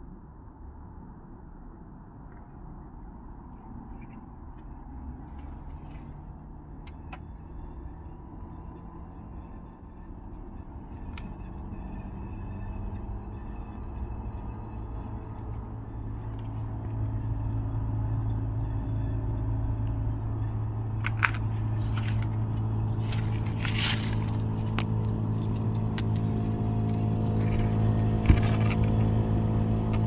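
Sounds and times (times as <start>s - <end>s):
heat pump compressor hum: 3.1s - 30.0s.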